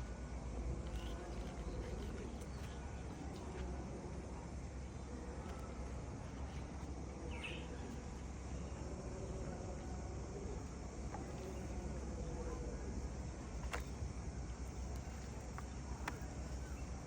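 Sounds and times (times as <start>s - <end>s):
faint insect sounds: 0.0s - 17.0s.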